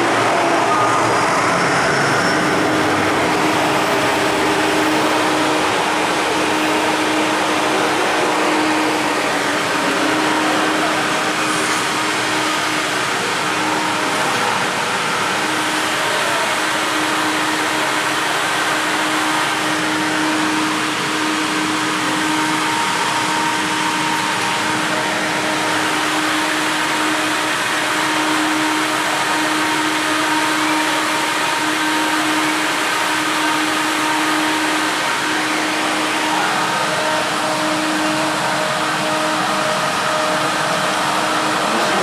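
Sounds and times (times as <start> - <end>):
lift whirring hum: 0.0 - 42.0.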